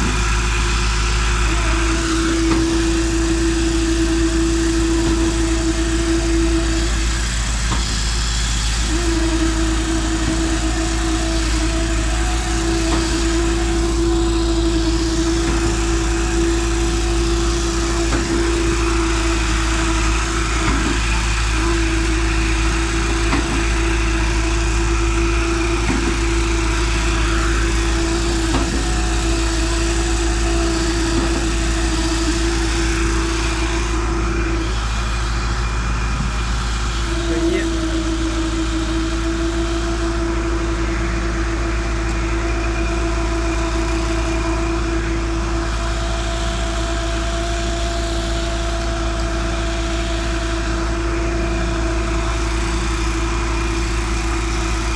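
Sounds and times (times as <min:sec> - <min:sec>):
diesel engine running under load: 0:00.0 - 0:54.9
steady whine: 0:00.0 - 0:54.9.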